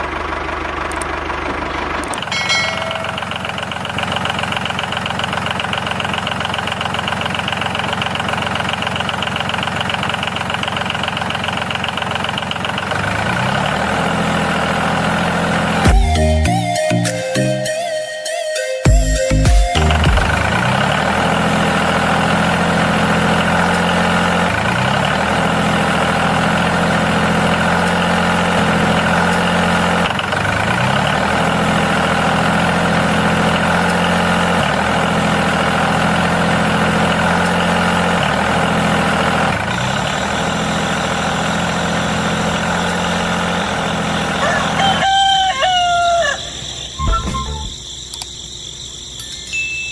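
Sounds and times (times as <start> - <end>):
engine idling: 0.0 - 16.9, 18.9 - 49.2.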